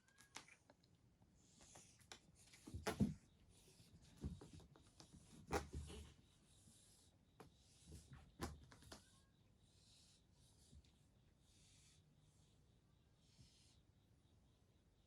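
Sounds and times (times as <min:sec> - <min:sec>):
cats scratching and rubbing: 0:00.0 - 0:12.3.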